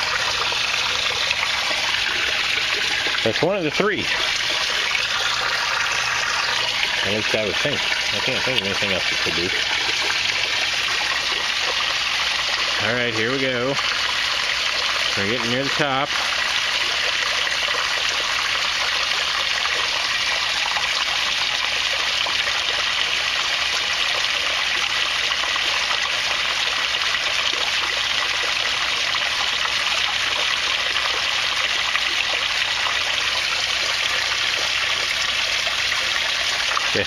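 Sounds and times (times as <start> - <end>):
water splashing into tank: 0.0 - 37.0.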